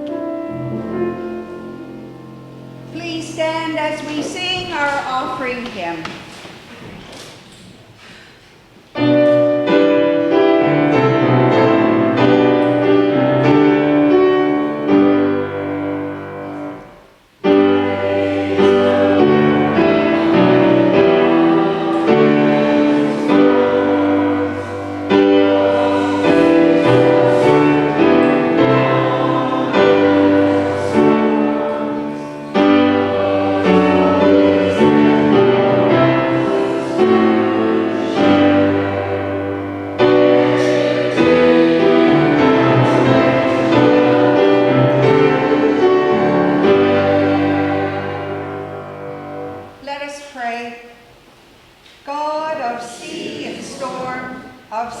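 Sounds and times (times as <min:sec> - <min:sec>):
piano playing hymn chords: 0:00.0 - 0:05.8, 0:08.9 - 0:49.9, 0:52.5 - 0:55.0.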